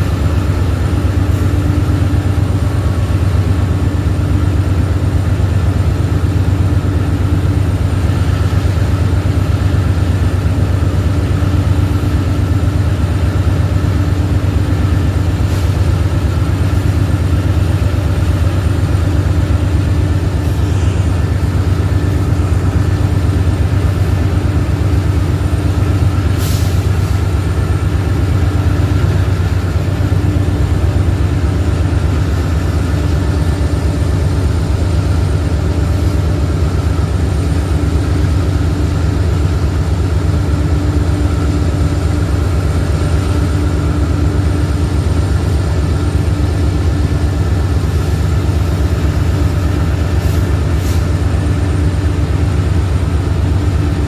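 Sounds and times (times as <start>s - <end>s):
locomotive engines droning: 0.0s - 54.0s.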